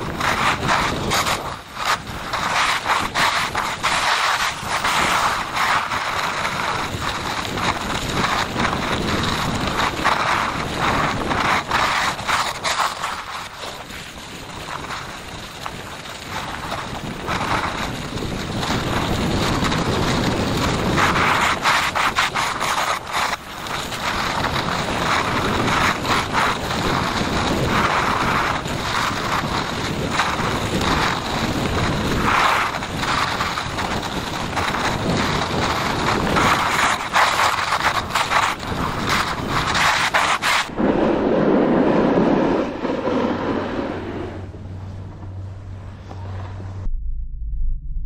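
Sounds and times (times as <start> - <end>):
skis scraping on snow: 0.0 - 45.3
wind buffeting microphone: 0.0 - 48.0.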